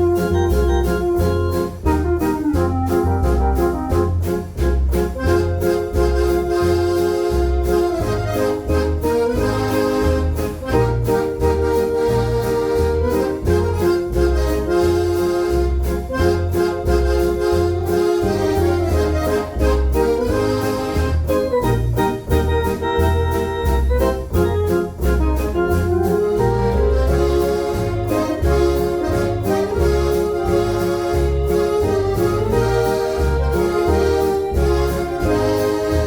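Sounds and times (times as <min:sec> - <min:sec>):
electronic organ playing a foxtrot: 0:00.0 - 0:36.0.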